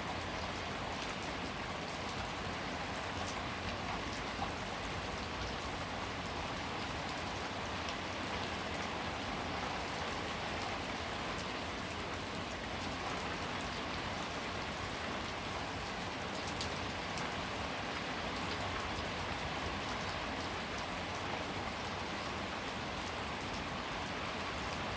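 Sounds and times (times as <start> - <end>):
steady rainfall: 0.0 - 24.9.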